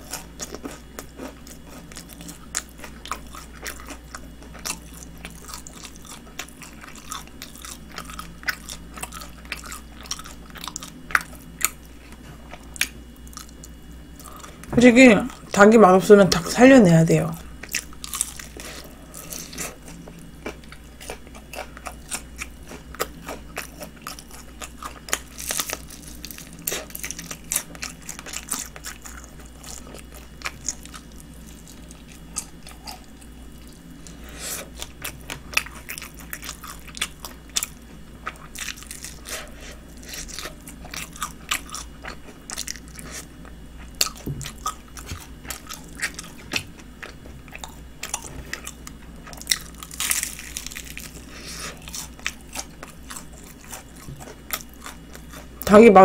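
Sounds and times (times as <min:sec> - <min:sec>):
crunchy biting of fried chicken: 0:00.0 - 0:14.5, 0:17.6 - 0:55.6
wet chewing: 0:00.0 - 0:14.7, 0:17.6 - 0:55.7.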